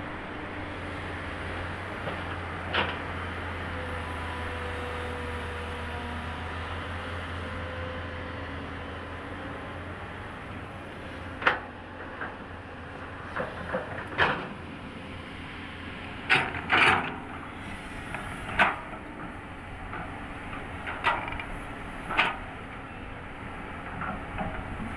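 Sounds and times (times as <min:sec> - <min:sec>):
excavator engine hum: 0:00.0 - 0:24.9.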